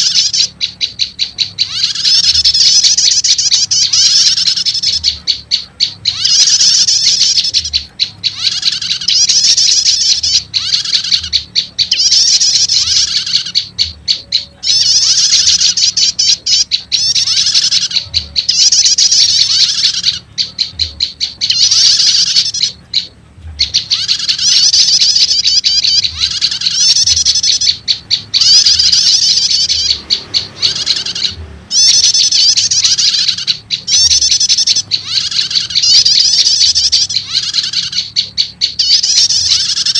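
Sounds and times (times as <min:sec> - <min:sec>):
high chattering bird trills: 0:00.0 - 0:39.9.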